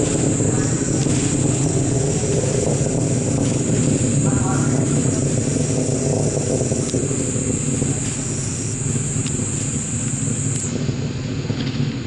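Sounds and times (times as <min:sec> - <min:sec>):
distant rocket motor roar: 0:00.0 - 0:12.0
steady high hiss: 0:00.0 - 0:12.0.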